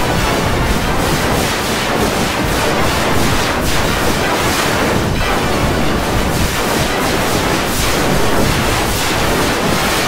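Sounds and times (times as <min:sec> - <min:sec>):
loud steady wall of noise: 0:00.0 - 0:10.0.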